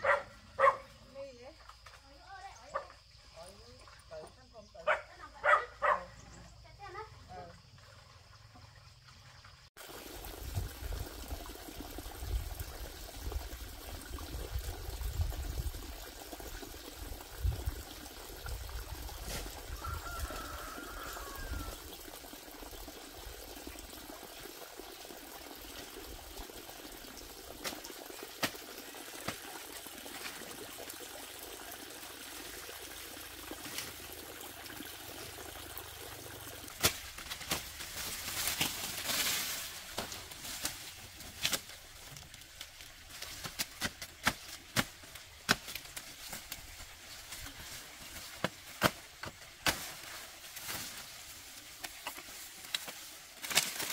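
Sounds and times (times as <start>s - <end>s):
trickling water: 0.0s - 4.8s, 6.2s - 53.9s.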